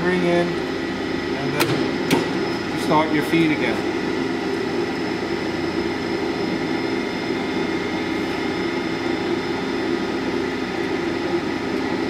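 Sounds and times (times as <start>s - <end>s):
high whine tones: 0.0s - 12.0s.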